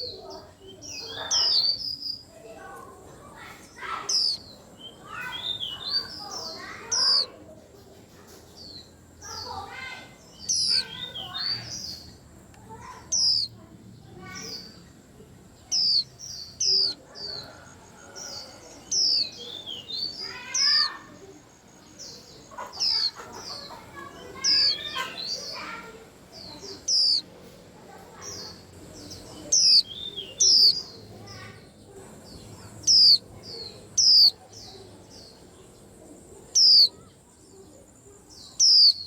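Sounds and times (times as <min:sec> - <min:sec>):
birds calling: 0:00.0 - 0:39.0
birds twittering: 0:00.0 - 0:39.0.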